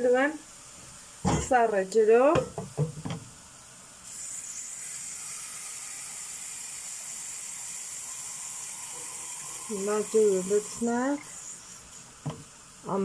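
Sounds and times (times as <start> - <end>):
groats toasting in a steel pot: 0.1 - 13.0.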